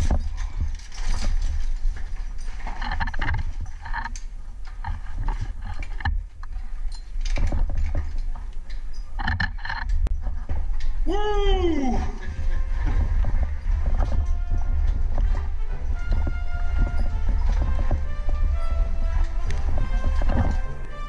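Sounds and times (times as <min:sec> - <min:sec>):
climbing gear clinking against rock: 0:00.0 - 0:20.9.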